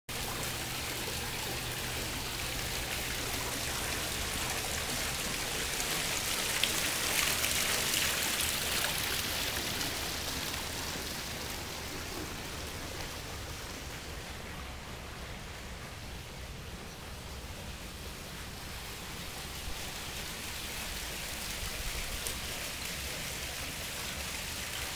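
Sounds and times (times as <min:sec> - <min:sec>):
fountain water splashing: 0:00.1 - 0:24.9.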